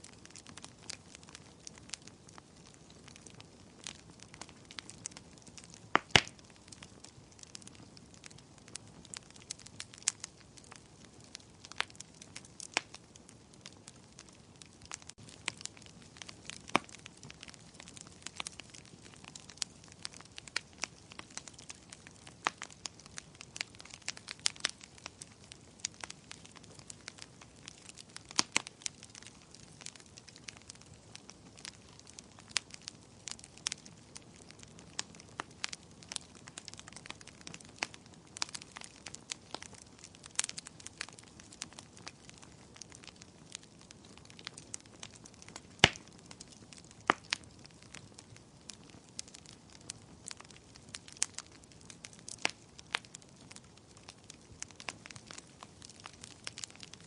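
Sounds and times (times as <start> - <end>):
soft steady hiss: 0.0 - 57.0
wood fire crackling: 0.0 - 57.0.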